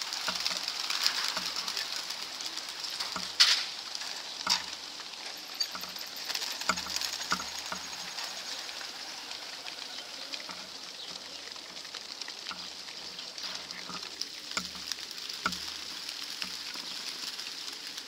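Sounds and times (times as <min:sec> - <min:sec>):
pigeon wings fluttering: 0:00.0 - 0:18.0.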